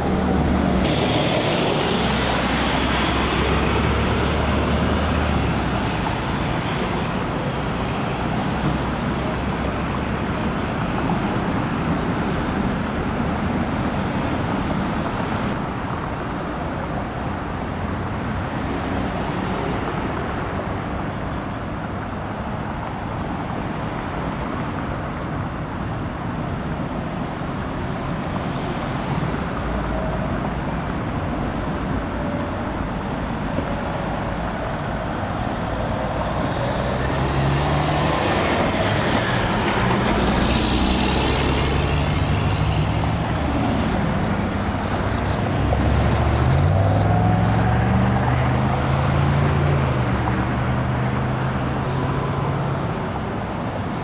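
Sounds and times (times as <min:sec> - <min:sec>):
highway traffic passing: 0:00.0 - 0:54.0.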